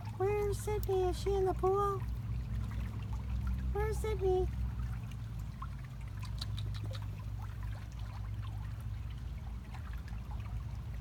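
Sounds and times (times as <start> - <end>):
low steady rumble: 0.0 - 11.0
pool water splashing: 0.0 - 11.0.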